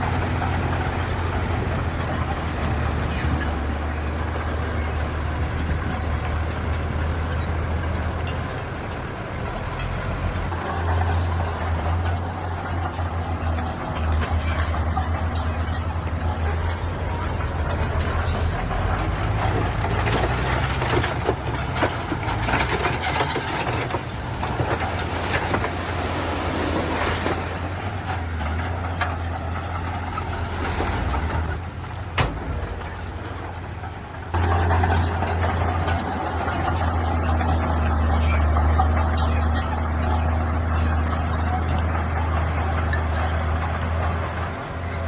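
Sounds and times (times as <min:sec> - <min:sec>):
diesel engine running under load: 0:00.0 - 0:45.0
machinery clanks and knocks: 0:00.0 - 0:45.0.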